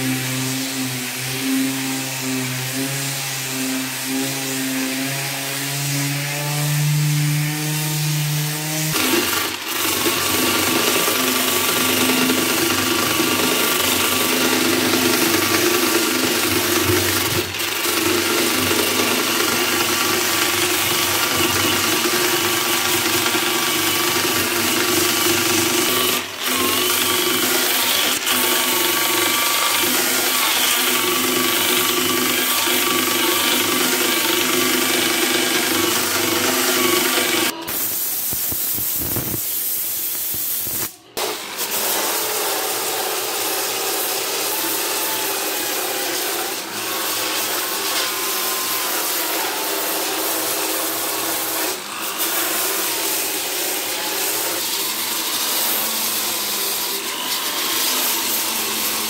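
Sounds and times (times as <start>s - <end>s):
electric drill sanding: 0.0s - 37.9s, 41.8s - 59.0s.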